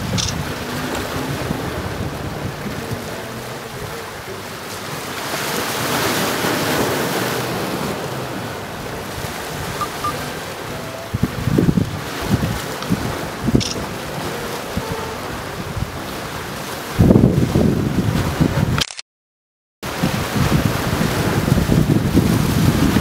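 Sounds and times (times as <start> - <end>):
sea waves washing on shore: 0.0 - 18.8, 19.8 - 23.0
wind buffeting microphone: 0.0 - 18.8, 19.8 - 23.0.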